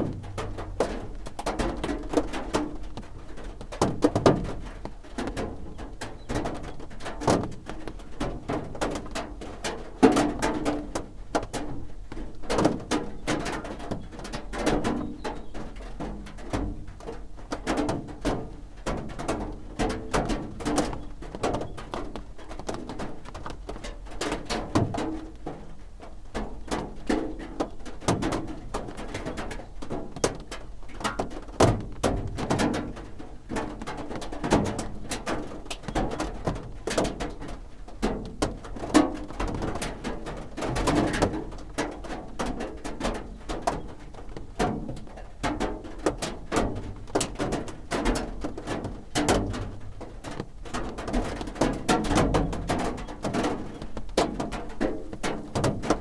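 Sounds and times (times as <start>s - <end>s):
rain drumming on a roof: 0.0s - 56.0s.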